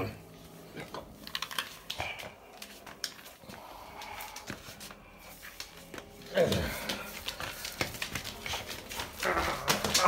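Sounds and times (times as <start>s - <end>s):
clicks and scuffs on wooden floor: 1.0s - 10.0s.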